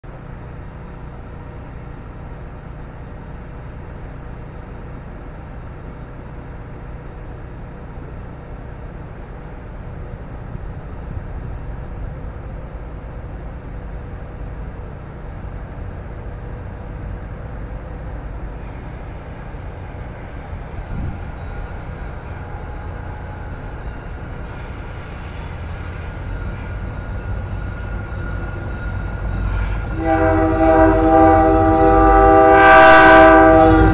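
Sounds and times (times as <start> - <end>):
approaching train: 0.0 - 33.9
diesel train idling: 0.0 - 33.9.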